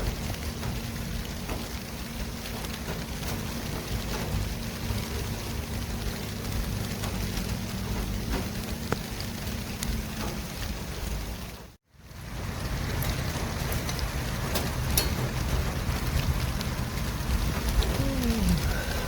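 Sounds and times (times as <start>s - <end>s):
low engine rumble: 0.0s - 19.0s
traffic noise: 0.0s - 19.0s.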